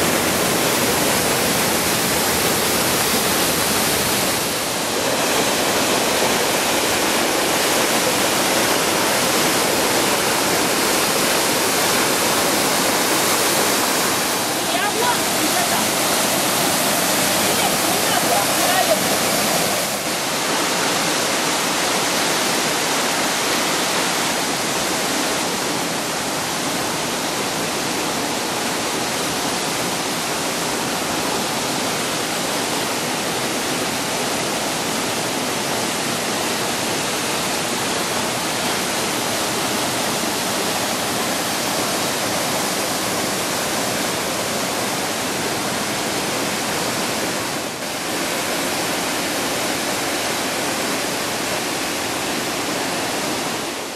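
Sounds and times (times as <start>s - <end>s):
stream rushing over rocks: 0.0s - 53.9s.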